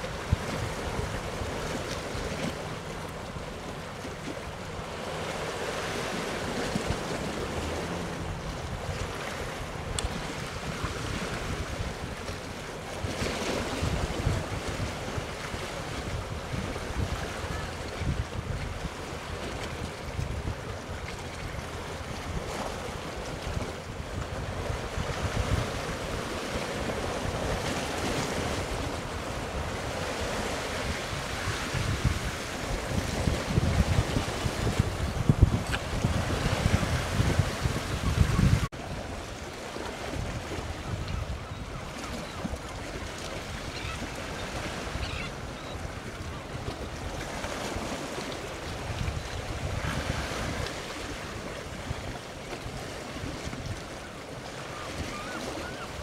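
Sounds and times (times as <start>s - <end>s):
sea waves: 0.0s - 56.0s
wind buffeting microphone: 5.0s - 56.0s.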